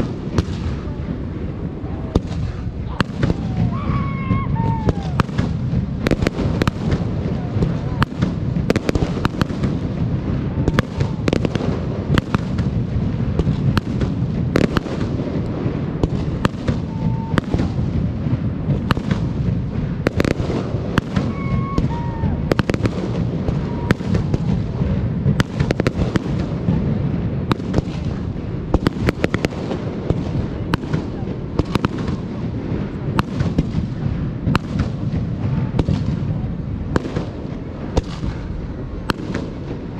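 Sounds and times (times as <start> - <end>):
fireworks bangs and crackles: 0.0 - 39.9
low rumble of booms: 0.0 - 39.9.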